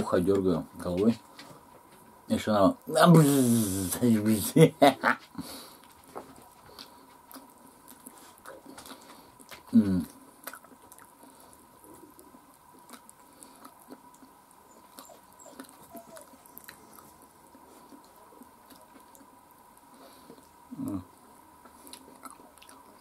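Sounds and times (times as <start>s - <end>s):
faint chewing: 3.2s - 23.0s.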